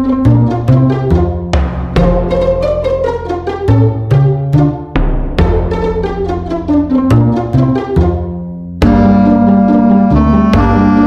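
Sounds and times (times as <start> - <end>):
plucked and bowed strings: 0.0 - 11.0
steady bass: 0.0 - 11.0.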